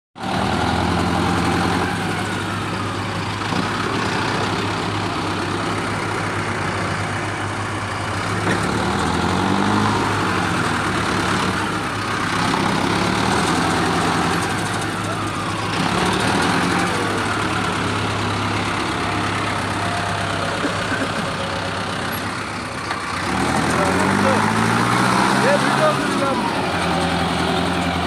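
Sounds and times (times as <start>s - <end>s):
tractor diesel engine running: 0.2s - 28.0s.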